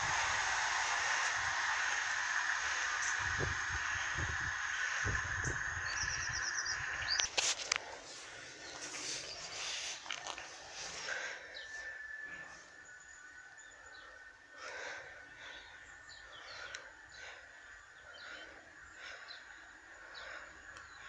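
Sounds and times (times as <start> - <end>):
faint high whine: 0.0 - 21.0
small birds chirping: 0.4 - 21.0.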